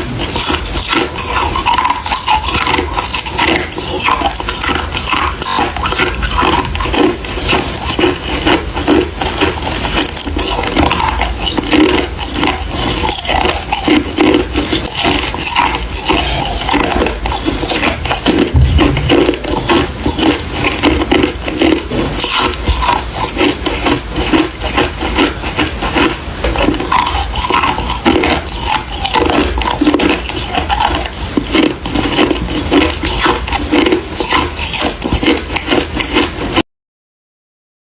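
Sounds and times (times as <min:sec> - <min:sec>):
ice being chewed: 0:00.0 - 0:36.6.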